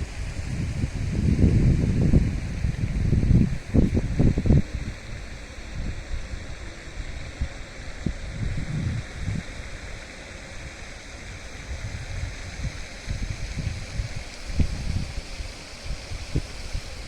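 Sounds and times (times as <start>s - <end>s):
steady rushing hiss: 0.0s - 17.0s
wind buffeting microphone: 0.0s - 17.0s.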